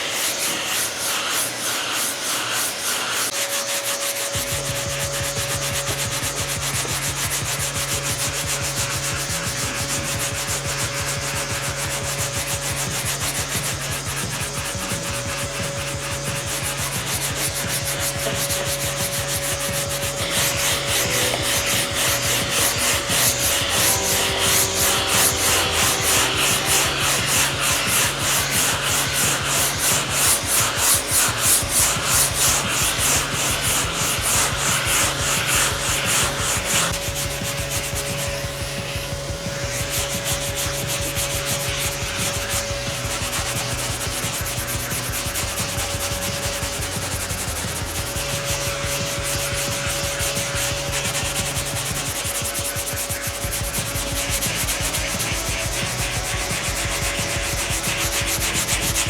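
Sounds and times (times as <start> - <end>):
sandpaper scraping strokes: 0.0 - 59.0.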